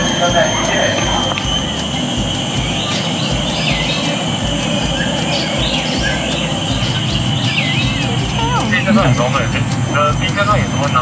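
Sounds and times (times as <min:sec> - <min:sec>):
birds whistling calls: 0:00.0 - 0:11.0
high insect-like drone: 0:00.0 - 0:11.0
low rumble: 0:00.0 - 0:11.0.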